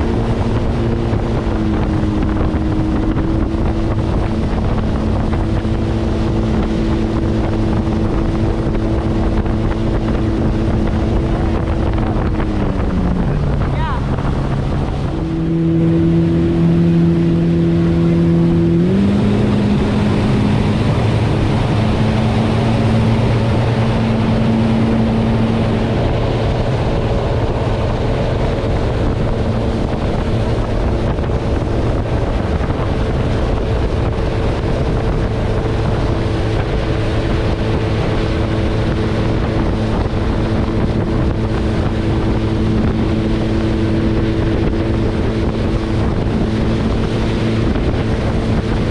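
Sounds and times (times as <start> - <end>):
watercraft engine running: 0.0 - 48.9
wind on microphone: 0.0 - 48.9.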